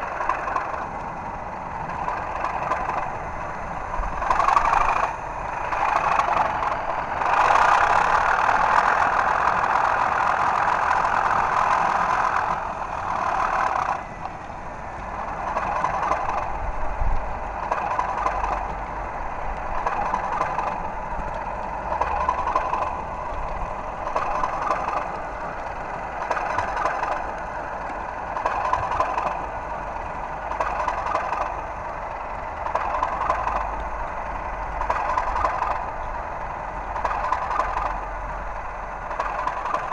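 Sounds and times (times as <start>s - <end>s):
model locomotive diesel engine sound: 0.0s - 39.9s.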